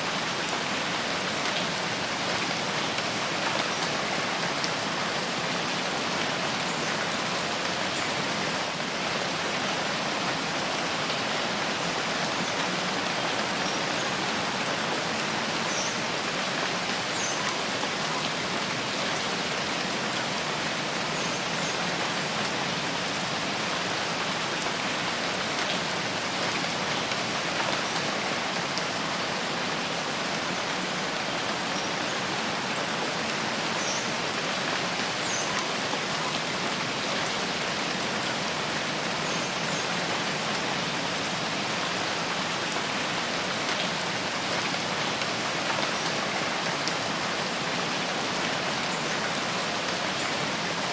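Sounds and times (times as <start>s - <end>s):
rain on leaves and ground: 0.0s - 50.9s.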